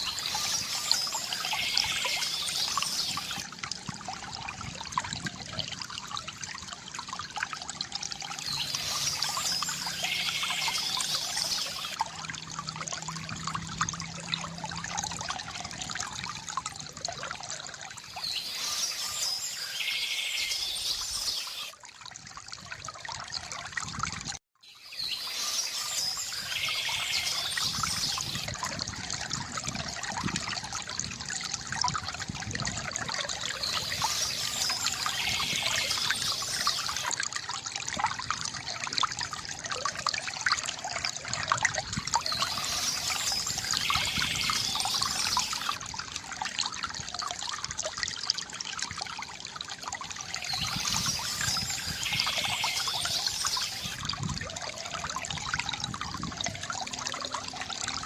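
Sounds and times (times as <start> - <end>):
water trickling from fountain: 0.0 - 58.0.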